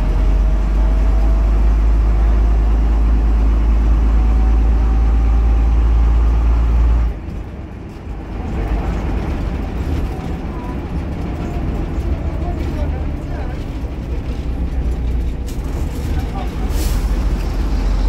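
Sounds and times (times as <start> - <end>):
diesel bus engine drone: 0.0 - 18.0.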